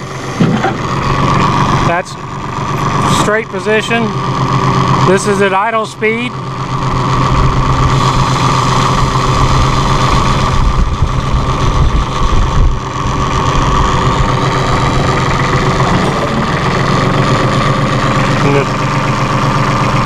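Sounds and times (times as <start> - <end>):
hydraulic loader raising: 0.0 - 5.4, 6.4 - 20.0
tractor diesel engine idling: 0.0 - 20.0.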